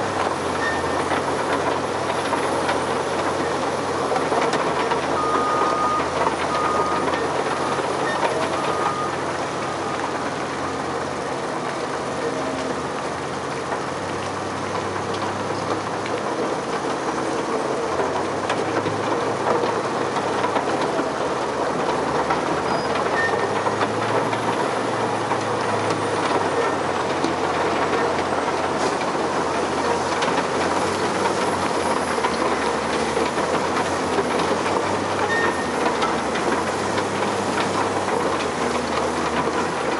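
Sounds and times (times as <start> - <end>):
wheel loader diesel engine: 0.0 - 39.9.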